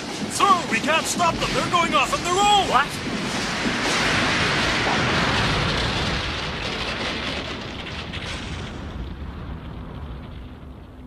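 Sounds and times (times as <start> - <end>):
explosion crackling: 0.0 - 11.0
rumbling explosion blast: 0.0 - 11.0.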